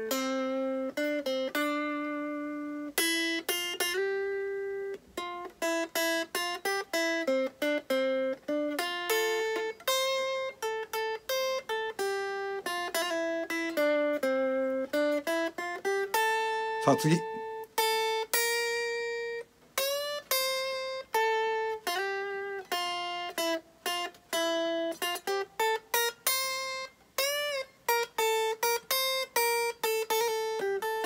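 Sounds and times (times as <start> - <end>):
electric guitar single-note lead: 0.0 - 31.0.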